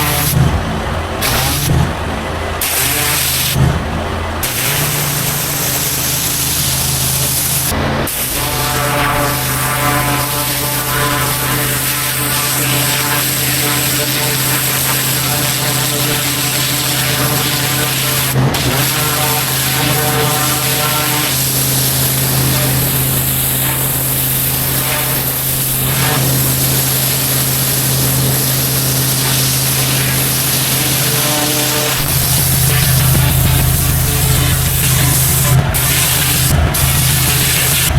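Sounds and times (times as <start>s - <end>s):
high-pressure water spray hiss: 0.0s - 37.9s
pressure washer engine running: 0.0s - 37.9s.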